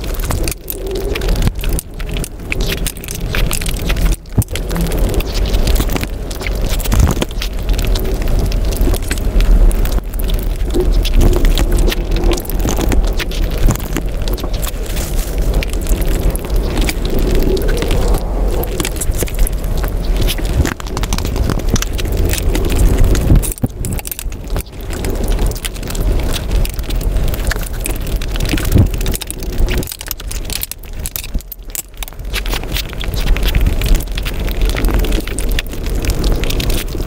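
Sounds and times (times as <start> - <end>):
chewing and eating by hand: 0.0 - 37.0.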